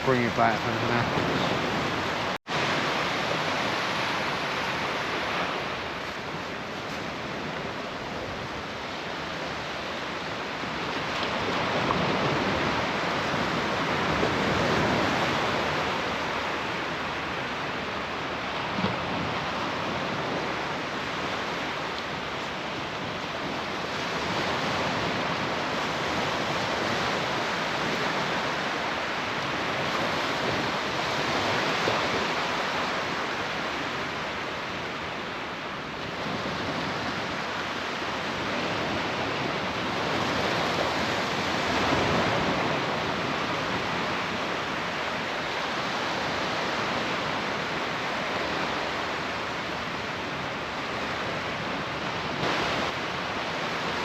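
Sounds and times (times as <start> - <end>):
surf breaking on beach: 0.0 - 54.0.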